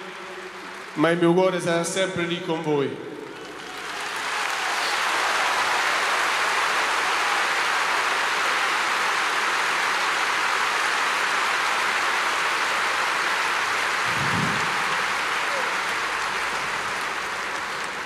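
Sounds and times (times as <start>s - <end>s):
crowd applauding: 0.0s - 2.4s, 3.2s - 18.0s.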